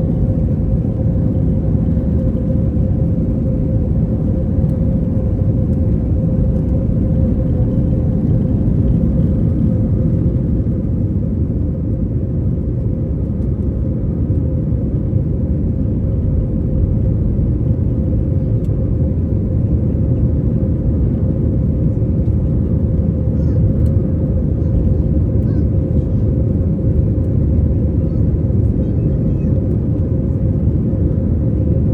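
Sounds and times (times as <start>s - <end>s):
airliner cabin rumble: 0.0s - 31.9s.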